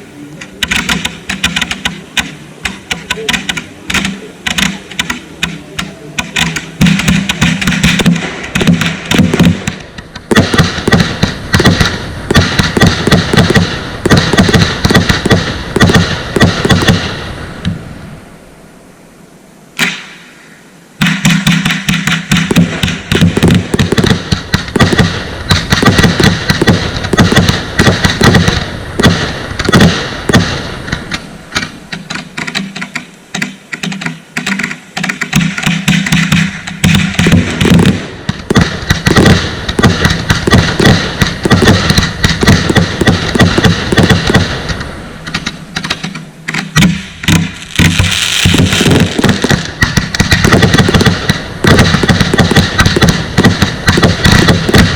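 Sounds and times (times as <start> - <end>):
fireworks barrage of cracks: 0.0 - 18.2, 19.7 - 54.9.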